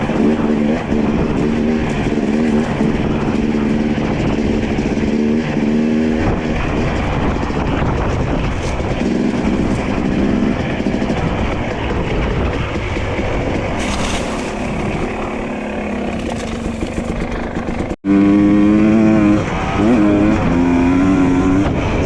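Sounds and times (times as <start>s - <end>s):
dirt bike engine running: 0.0s - 22.0s
wind noise on microphone: 0.0s - 22.0s.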